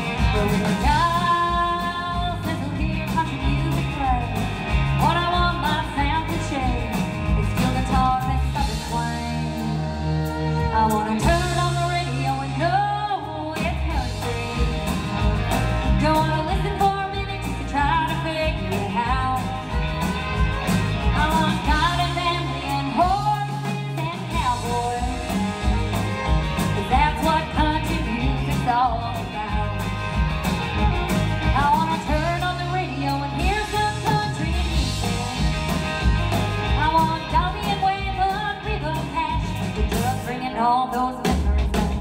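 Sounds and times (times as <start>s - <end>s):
acoustic guitar: 0.0s - 42.0s
drums: 0.0s - 42.0s
fiddle: 0.0s - 42.0s
woman singing: 0.0s - 42.0s.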